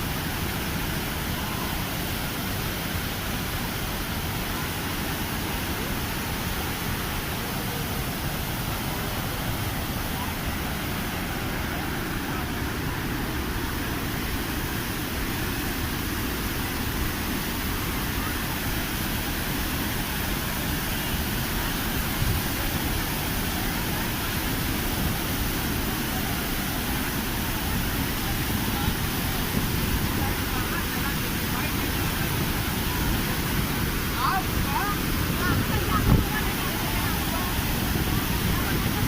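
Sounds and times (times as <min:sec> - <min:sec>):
waterfall rushing water: 0:00.0 - 0:39.0.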